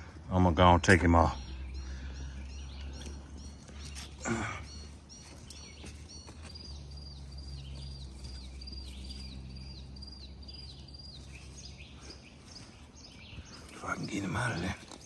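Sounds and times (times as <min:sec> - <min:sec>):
steady low hum: 0:00.0 - 0:15.0
songbird whistling: 0:01.3 - 0:14.6.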